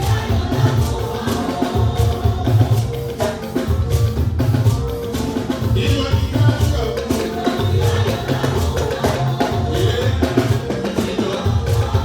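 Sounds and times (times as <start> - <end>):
band music with drums and bass: 0.0 - 12.0.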